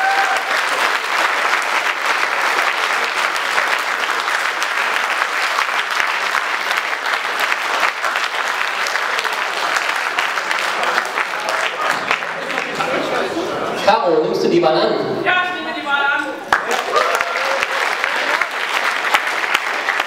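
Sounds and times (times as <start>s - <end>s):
audience applause: 0.0s - 13.6s, 16.4s - 20.0s.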